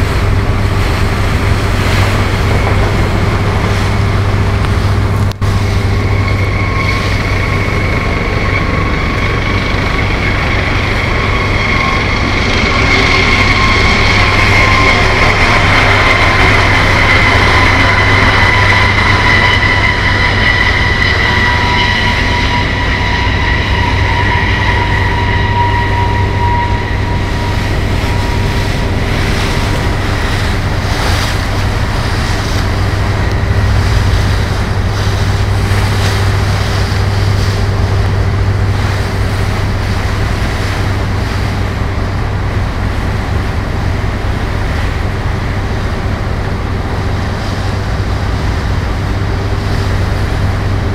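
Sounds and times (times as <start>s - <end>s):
helicopter turbine whine: 0.0s - 50.9s
low engine drone: 0.0s - 50.9s
rushing wind and water: 0.0s - 50.9s.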